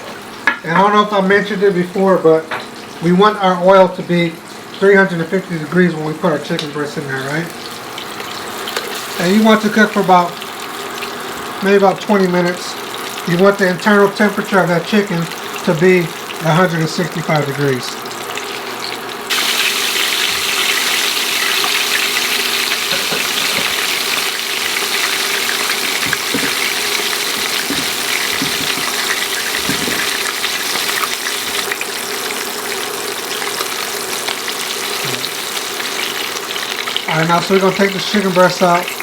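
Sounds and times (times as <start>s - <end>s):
oil sizzling with pops: 5.7s - 39.0s.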